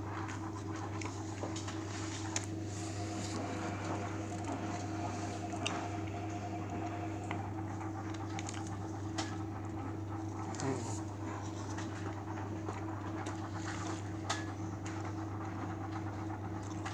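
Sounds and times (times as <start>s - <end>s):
washing machine motor hum: 0.0s - 16.9s.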